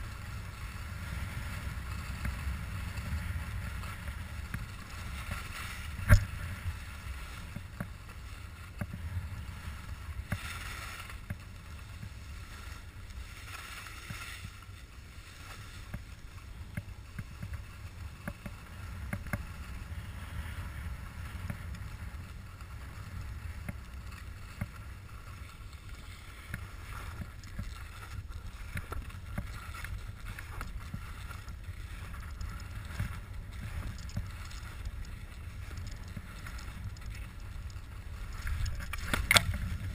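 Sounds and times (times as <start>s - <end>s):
wind rumbling on microphone: 0.0s - 39.9s
edges scraping on snow: 0.2s - 39.9s.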